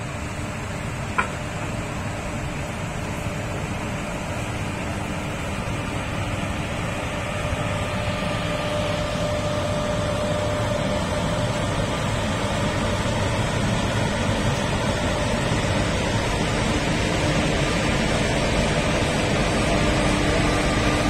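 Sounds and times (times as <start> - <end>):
electric locomotive hum and whine: 0.0 - 21.0.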